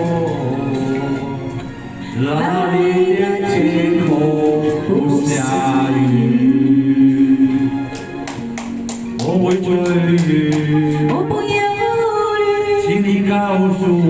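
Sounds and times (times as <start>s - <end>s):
man and woman singing duet: 0.0s - 8.5s, 9.2s - 14.0s
backing music: 0.0s - 14.0s.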